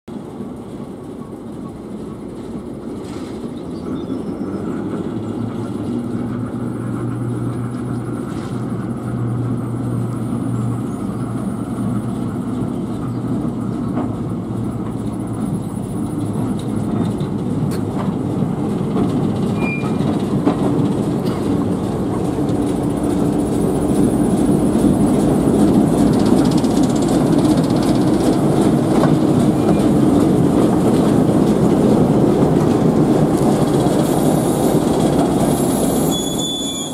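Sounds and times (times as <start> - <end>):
diesel locomotive engine hum: 0.1 - 36.9.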